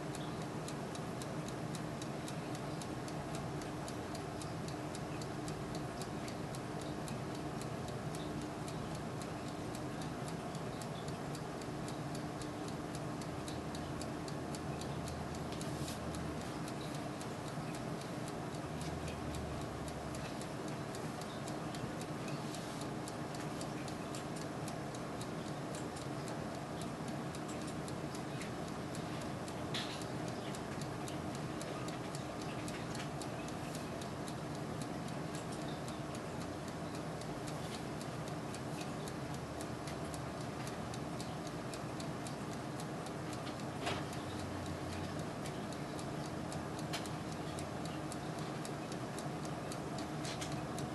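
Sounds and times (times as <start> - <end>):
light ticking and crackling: 0.0 - 50.9
oven fan hum: 0.0 - 50.9.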